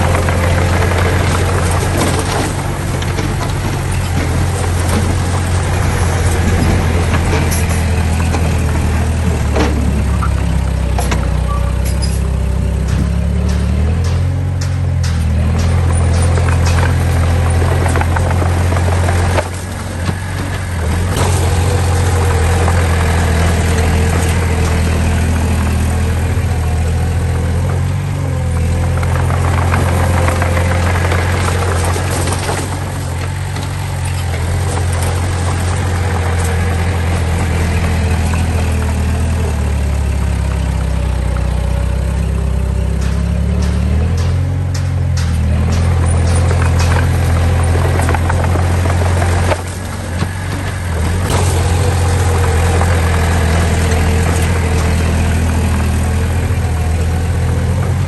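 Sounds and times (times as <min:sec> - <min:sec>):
diesel engines droning: 0:00.0 - 0:58.0
machinery clatter: 0:00.0 - 0:58.0.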